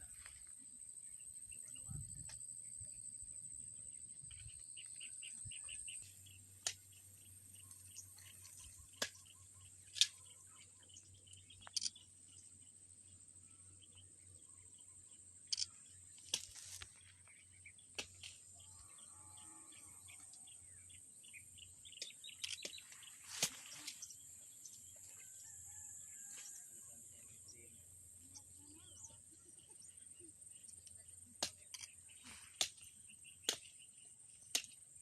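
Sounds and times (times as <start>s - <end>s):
small birds chirping: 3.9s - 26.3s, 27.2s - 34.9s.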